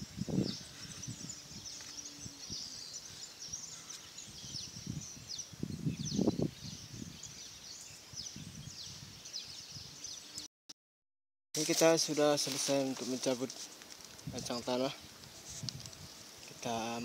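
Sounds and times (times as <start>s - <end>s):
small birds chirping: 0.0s - 10.5s, 11.8s - 17.0s.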